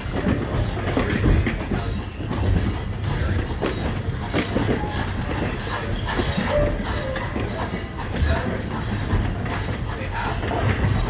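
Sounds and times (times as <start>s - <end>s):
train coach rumbling on rails: 0.0s - 11.0s
wheels clanking and knocking: 0.0s - 11.0s.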